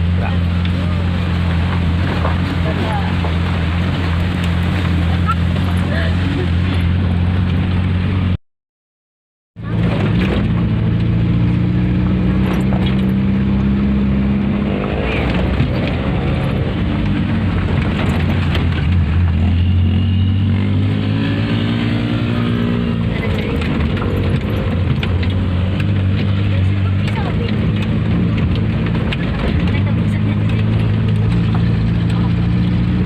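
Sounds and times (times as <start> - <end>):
vehicle engine running steadily: 0.0 - 8.4, 9.6 - 33.0.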